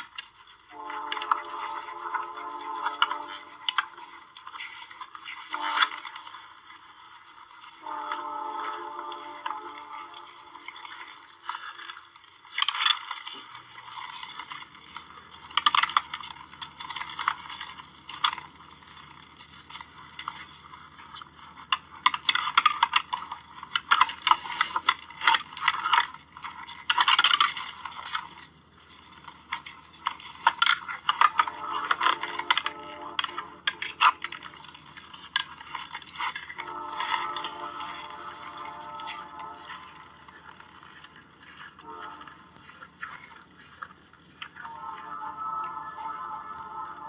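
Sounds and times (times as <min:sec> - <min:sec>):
clicking and scraping on trough: 0:00.0 - 0:44.7
faint low hum: 0:00.0 - 0:47.0.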